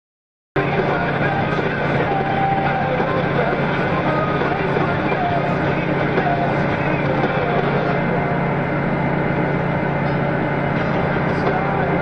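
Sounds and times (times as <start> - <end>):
diesel engine droning: 0.6 - 12.0
faint music: 0.6 - 12.0.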